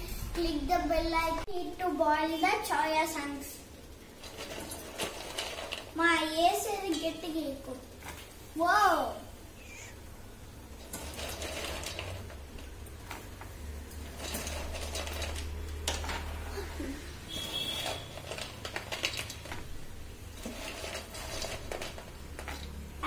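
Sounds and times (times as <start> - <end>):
water boiling in a pot: 1.8 - 23.0.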